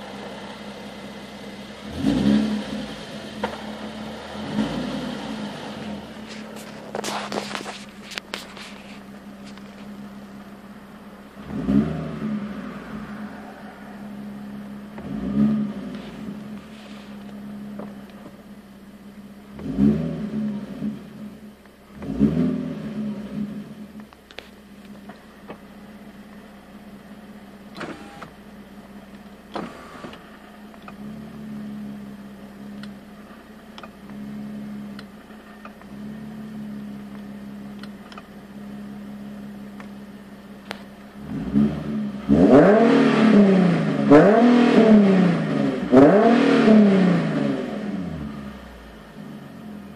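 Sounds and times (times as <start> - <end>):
car engine running and revving: 0.0 - 49.9.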